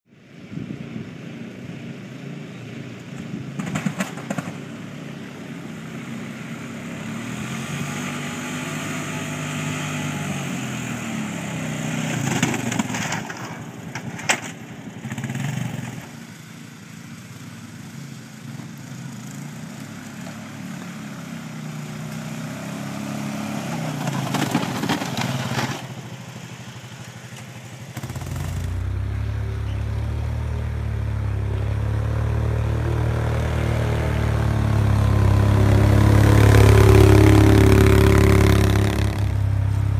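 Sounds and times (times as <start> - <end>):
atv engine running: 2.5 - 39.9
plow blade scraping snow: 3.6 - 39.9.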